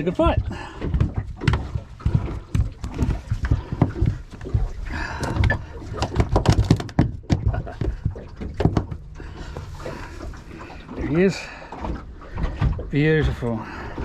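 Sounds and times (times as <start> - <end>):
knocks and clatter in boat: 0.0 - 14.0.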